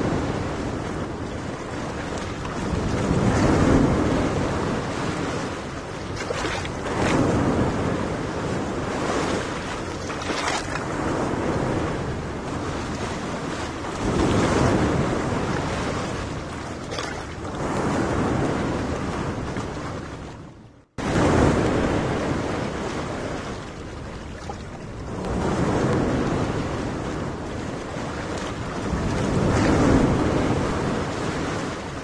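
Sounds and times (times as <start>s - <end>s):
waves washing onto sand: 0.0s - 32.0s
wind on microphone: 0.0s - 32.0s.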